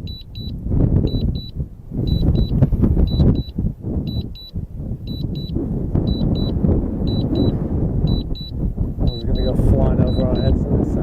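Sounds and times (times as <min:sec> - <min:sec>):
high double beep: 0:00.0 - 0:10.6
wind buffeting microphone: 0:00.0 - 0:11.0.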